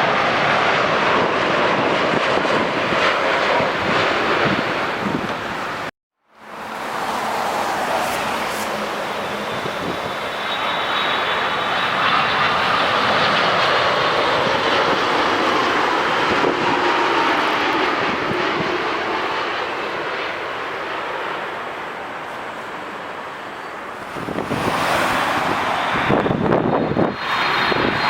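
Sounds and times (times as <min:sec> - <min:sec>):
jet engines passing: 0:00.0 - 0:28.0.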